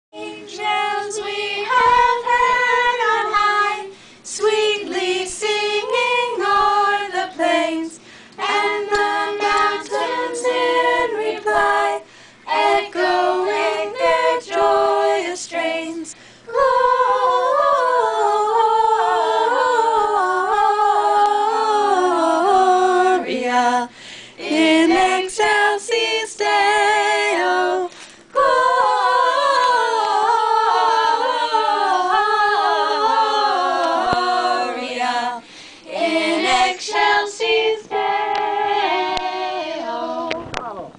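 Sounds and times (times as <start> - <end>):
group singing a cappella: 0.1 - 40.9.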